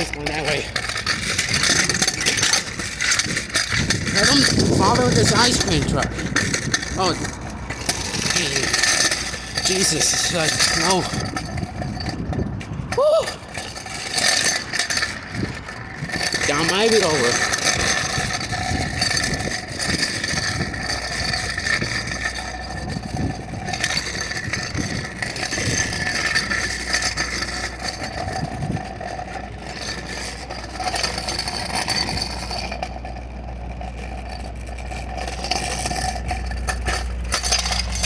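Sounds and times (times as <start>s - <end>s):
low hum: 0.0s - 38.0s
rattling: 0.0s - 38.0s
road noise: 0.0s - 38.0s
vehicle engine running: 0.0s - 38.0s.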